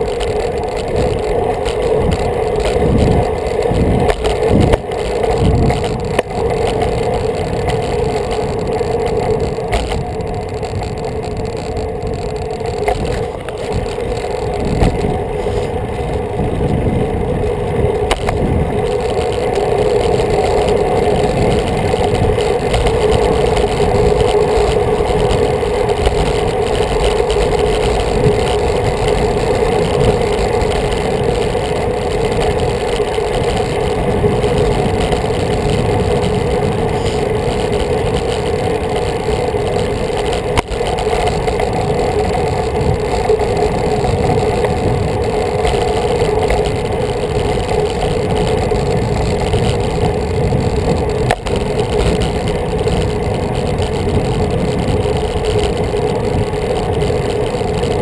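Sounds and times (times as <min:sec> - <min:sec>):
droning hum: 0:00.0 - 0:58.0
road rumble: 0:00.0 - 0:58.0
wind on microphone: 0:00.0 - 0:58.0
wind rush: 0:00.0 - 0:58.0.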